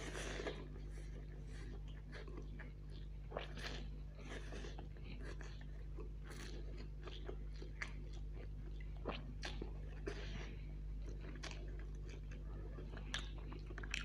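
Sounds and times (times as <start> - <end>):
chewing with wet mouth sounds: 0.0 - 14.0
steady low hum: 0.0 - 14.0.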